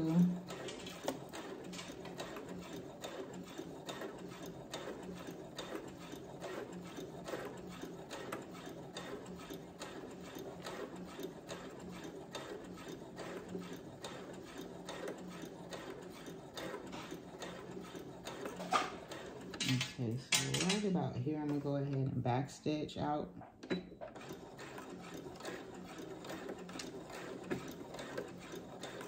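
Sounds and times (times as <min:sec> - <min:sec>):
sewing machine stitching: 0:00.0 - 0:29.0.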